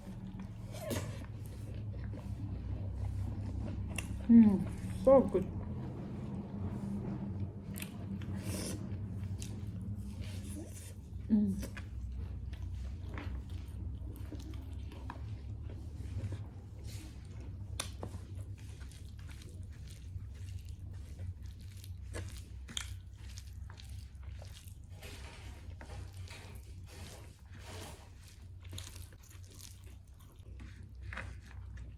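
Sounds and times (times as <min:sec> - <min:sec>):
person chewing and crunching food: 0:00.0 - 0:31.9
steady low hum: 0:00.0 - 0:31.9.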